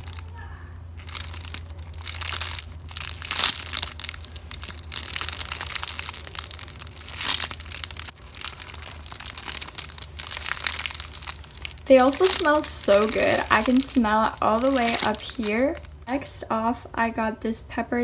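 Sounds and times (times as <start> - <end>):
plastic packaging crinkling: 0.0 - 16.2.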